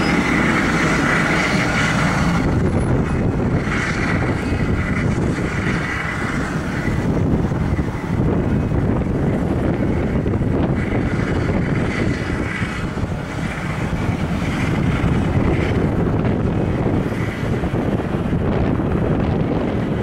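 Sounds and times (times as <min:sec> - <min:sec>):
jet engine noise with whine: 0:00.0 - 0:20.0
wind buffeting microphone: 0:00.0 - 0:20.0.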